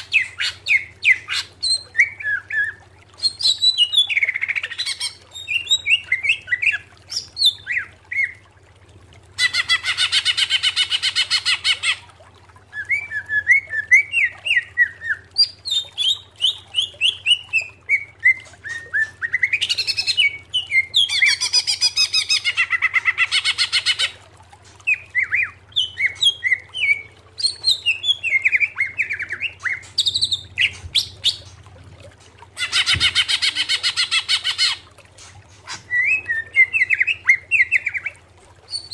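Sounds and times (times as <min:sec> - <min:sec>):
bird whistling song: 0:00.0 - 0:08.4, 0:12.7 - 0:24.1, 0:24.8 - 0:31.6, 0:32.6 - 0:34.8, 0:35.7 - 0:38.9.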